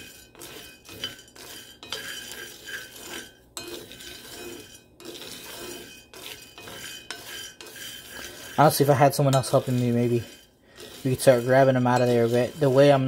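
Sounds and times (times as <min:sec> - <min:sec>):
coffee beans rattling in skillet: 0:00.0 - 0:13.0.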